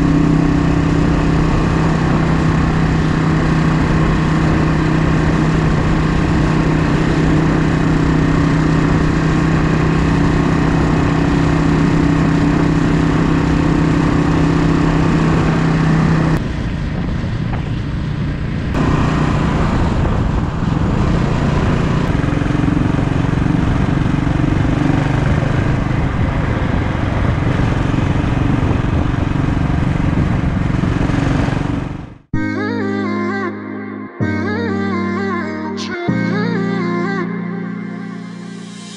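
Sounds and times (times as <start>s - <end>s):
motorcycle engine running: 0.0s - 32.3s
wind rushing: 0.0s - 32.3s.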